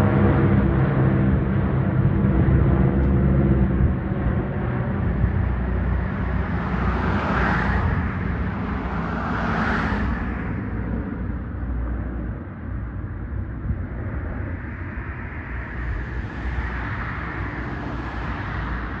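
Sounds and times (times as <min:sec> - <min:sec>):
propeller planes droning overhead: 0:00.0 - 0:19.0.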